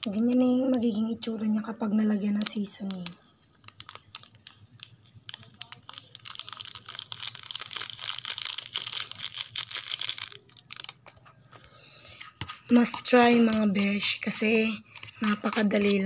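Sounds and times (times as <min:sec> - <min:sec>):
foil sachet crinkling: 0:02.0 - 0:11.2, 0:12.1 - 0:16.0.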